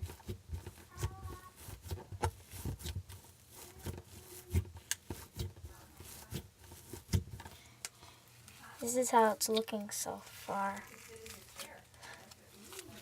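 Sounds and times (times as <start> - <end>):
slime kneaded by hand: 0.0 - 7.6, 8.3 - 13.0.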